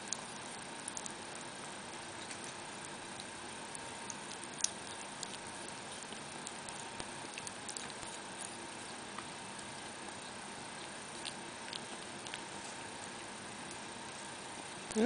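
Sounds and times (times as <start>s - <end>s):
ferret licking and smacking: 0.0s - 15.0s.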